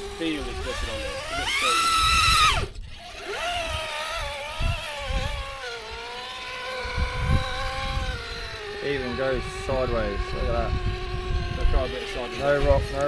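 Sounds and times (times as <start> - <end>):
electric motor and drivetrain whine: 0.0 - 13.0.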